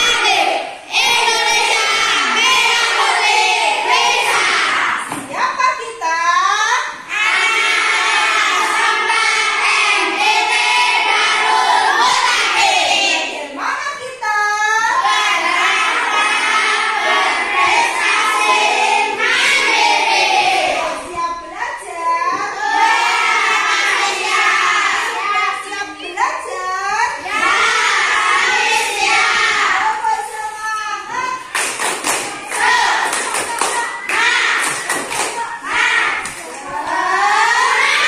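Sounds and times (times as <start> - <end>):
children singing in unison: 0.0 - 5.2, 6.9 - 13.6, 14.6 - 25.9, 27.2 - 30.4, 31.0 - 38.0.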